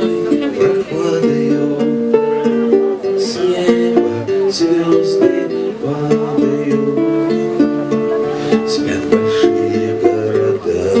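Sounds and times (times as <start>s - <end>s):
fingerpicked acoustic guitar: 0.0s - 11.0s
man singing a lullaby: 0.0s - 11.0s.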